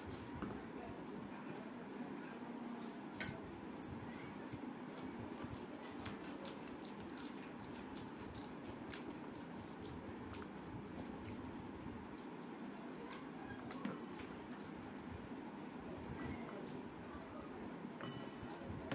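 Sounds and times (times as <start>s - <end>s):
low background noise: 0.0s - 18.9s
wet squishing of food by hand: 0.0s - 18.9s.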